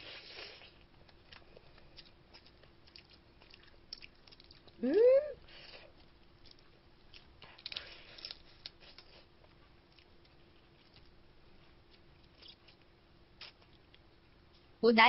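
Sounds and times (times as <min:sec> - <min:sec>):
crab shell cracking and chewing: 0:00.7 - 0:04.8, 0:05.8 - 0:14.1.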